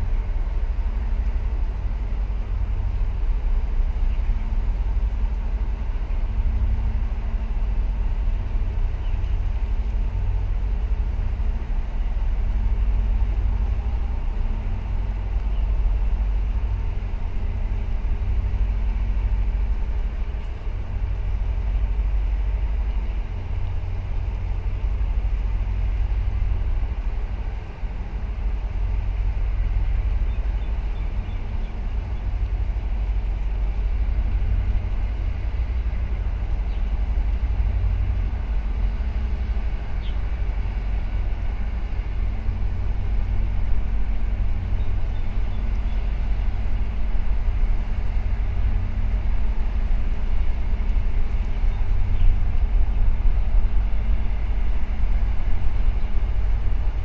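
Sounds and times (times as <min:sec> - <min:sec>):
faint steady hum: 0:00.0 - 0:57.0
ship engines rumbling: 0:00.0 - 0:57.0.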